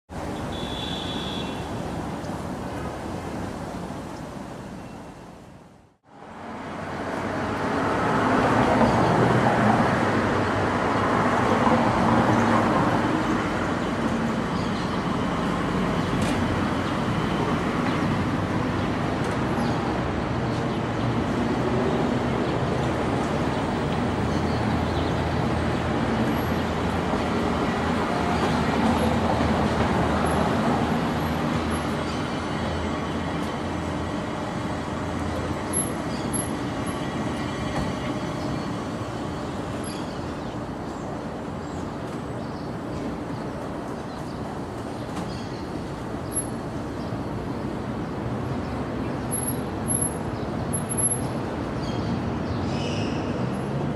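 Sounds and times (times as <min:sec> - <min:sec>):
city traffic noise: 0:00.1 - 0:53.9.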